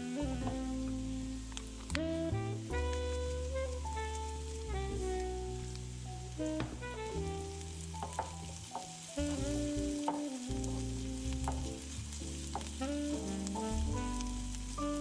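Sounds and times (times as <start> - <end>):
background music: 0.0 - 15.0
greens sizzling in a pan: 0.0 - 15.0.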